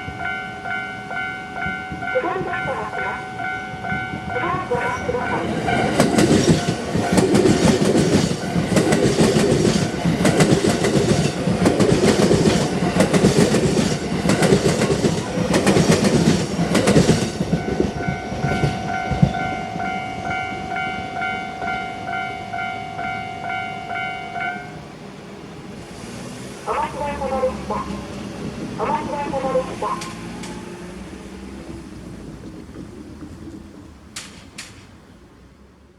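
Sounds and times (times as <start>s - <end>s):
train wheels clattering: 0.0s - 24.8s, 27.6s - 35.1s
crossing warning bell ringing: 0.0s - 25.0s, 26.6s - 31.8s.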